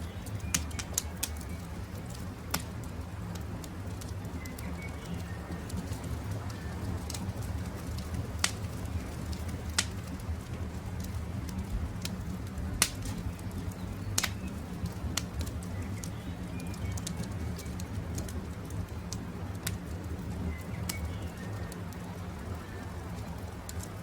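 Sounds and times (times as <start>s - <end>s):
campfire crackling: 0.0s - 24.0s
low rumble of flames: 0.0s - 24.0s
sharp pops and snaps: 0.2s - 24.0s.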